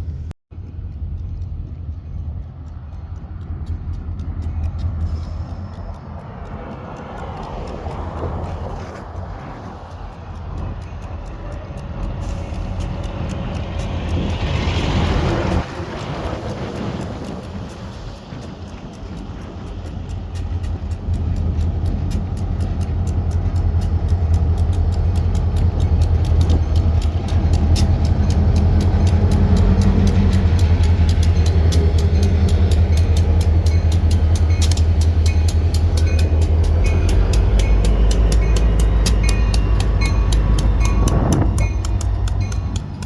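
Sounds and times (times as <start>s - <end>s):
train engine drone: 0.0s - 43.0s
train wheels clicking over rail joints: 0.6s - 43.0s.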